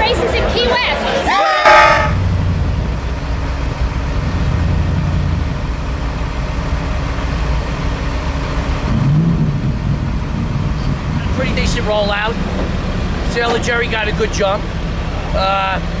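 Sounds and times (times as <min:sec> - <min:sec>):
powerboat engines droning: 0:00.0 - 0:16.0.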